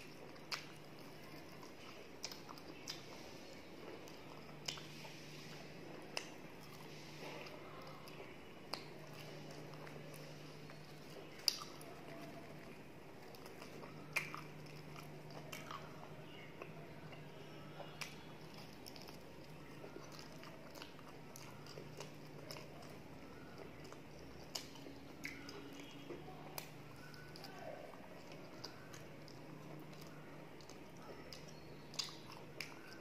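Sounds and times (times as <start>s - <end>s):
biting and chewing: 0.0s - 33.0s.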